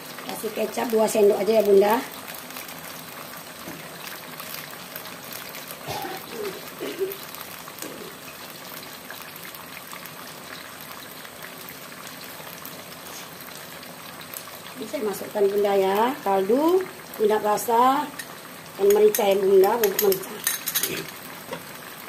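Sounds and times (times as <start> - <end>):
sauce simmering and bubbling: 0.0 - 22.0.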